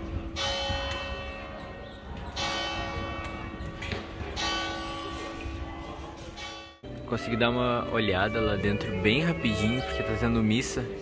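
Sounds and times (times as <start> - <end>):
church bell tolling: 0.0 - 10.9.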